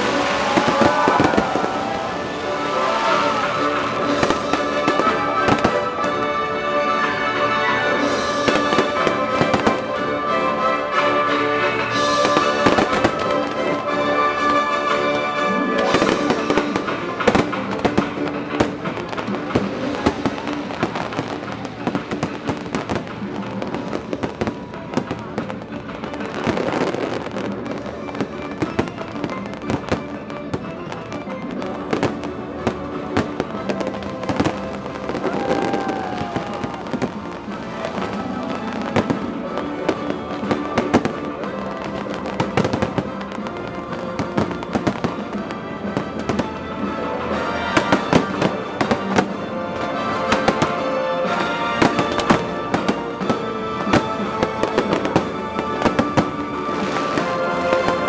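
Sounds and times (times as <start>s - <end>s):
fireworks bangs and crackles: 0.0s - 58.0s
music playing: 0.0s - 58.0s.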